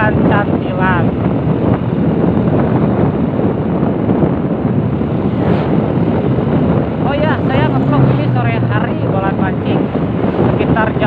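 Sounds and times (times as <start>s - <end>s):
wind rush on microphone: 0.0s - 11.0s
motorcycle engine running: 1.1s - 11.0s.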